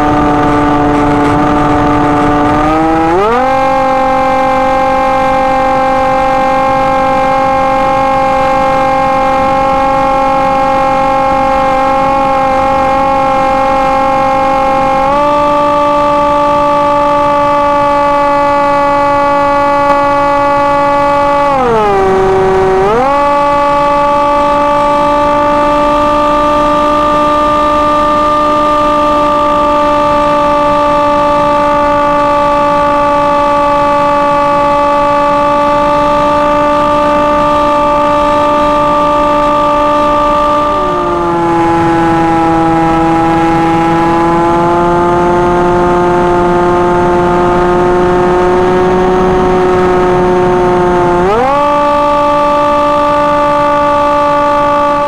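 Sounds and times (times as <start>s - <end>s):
model plane motor whining: 0.0s - 55.0s.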